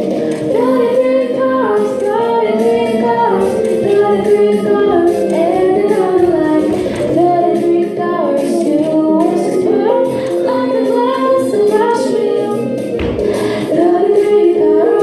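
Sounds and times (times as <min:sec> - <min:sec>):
children singing: 0:00.0 - 0:15.0
musical accompaniment: 0:00.0 - 0:15.0.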